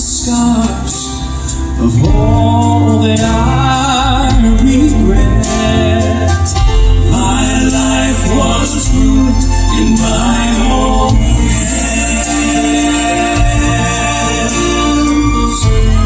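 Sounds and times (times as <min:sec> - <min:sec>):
band accompaniment with bass: 0:00.0 - 0:16.0
male vocal quartet singing: 0:00.0 - 0:16.0.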